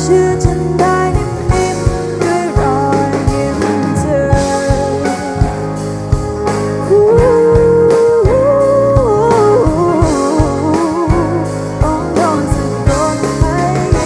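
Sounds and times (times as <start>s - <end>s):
person singing: 0.0s - 5.8s, 6.8s - 14.0s
guitar: 0.0s - 14.0s.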